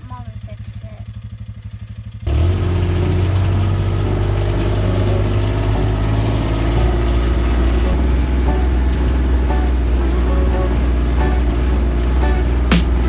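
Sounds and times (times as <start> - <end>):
off-road vehicle engine droning: 0.0 - 13.0.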